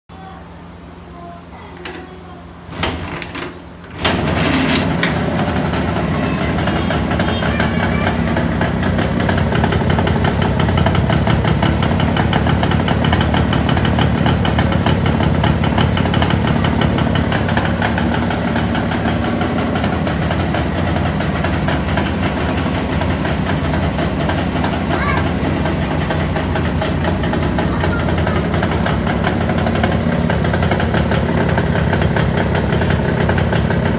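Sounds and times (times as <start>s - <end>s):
two-stroke motorcycle engine idling: 1.8s - 33.9s.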